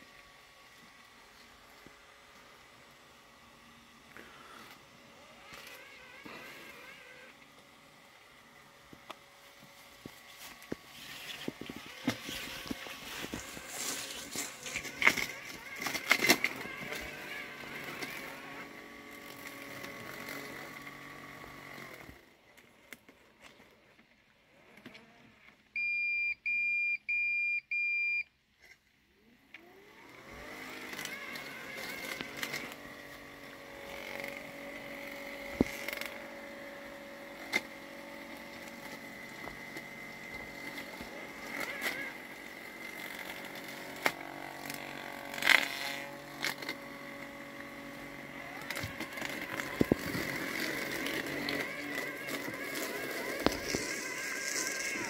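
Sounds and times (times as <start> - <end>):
lawn mower motor whine: 0.0 - 25.9, 29.2 - 55.0.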